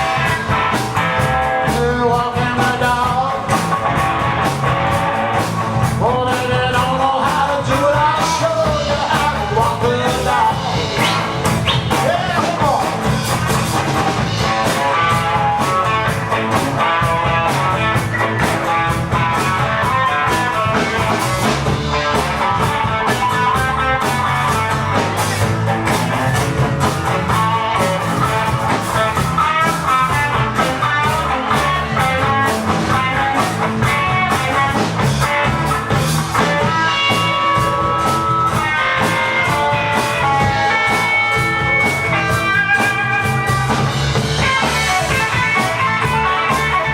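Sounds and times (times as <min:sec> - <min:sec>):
blues-rock band playing: 0:00.0 - 0:46.9
lead guitar line: 0:00.0 - 0:46.9.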